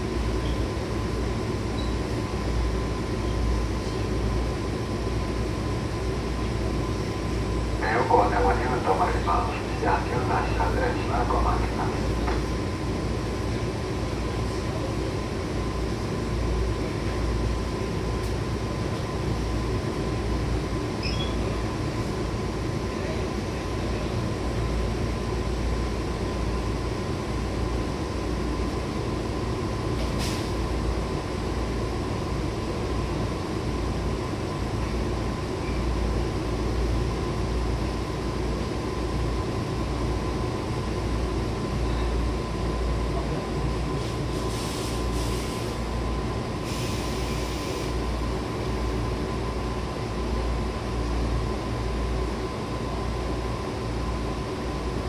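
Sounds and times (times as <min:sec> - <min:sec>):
deep rumble of train wheels: 0:00.0 - 0:55.0.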